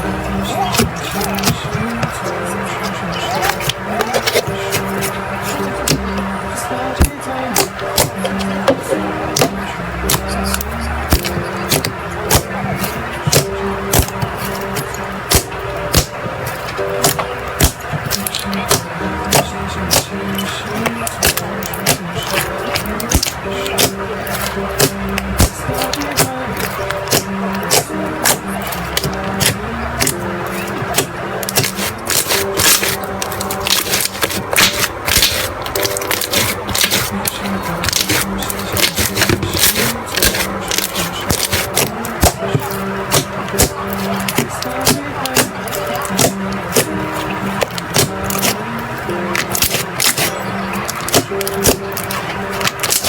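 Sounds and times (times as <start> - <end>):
background pop music: 0.0 - 53.0
crunchy slime crackling: 0.0 - 53.0.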